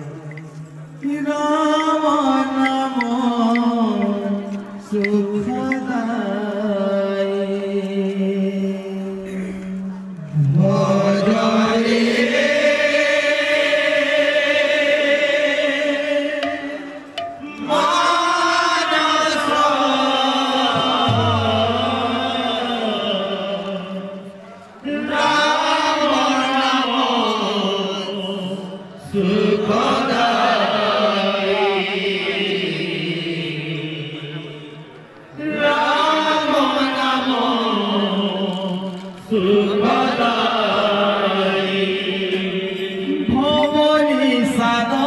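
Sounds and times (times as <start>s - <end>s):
men singing devotional chant: 0.0s - 45.0s.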